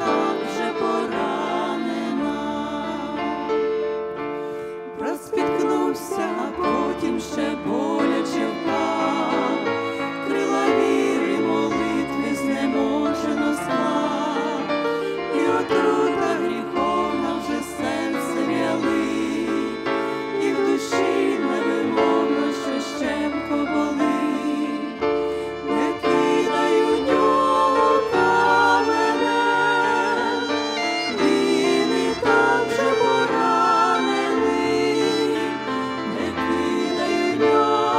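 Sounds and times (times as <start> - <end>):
women's vocal trio singing a hymn: 0.0 - 3.7, 4.9 - 37.9
grand piano accompaniment: 0.0 - 37.9
violin melody with vibrato: 0.0 - 37.9.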